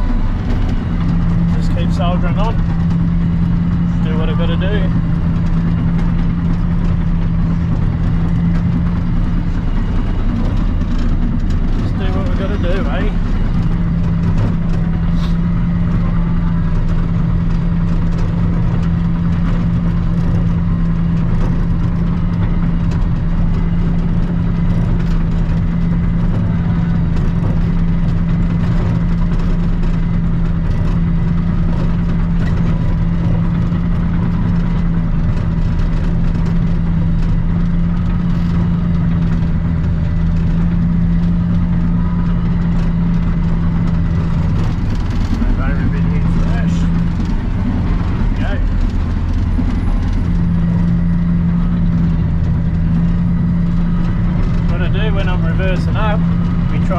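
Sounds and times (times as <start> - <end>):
bulldozer diesel engine running: 0.0 - 56.9.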